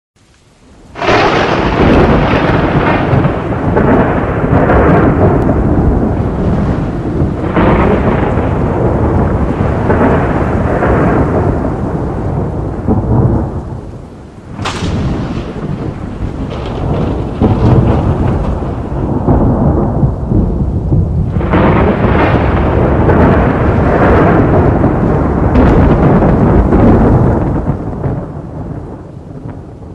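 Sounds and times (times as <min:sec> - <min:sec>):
rolling thunder: 0:00.6 - 0:29.9.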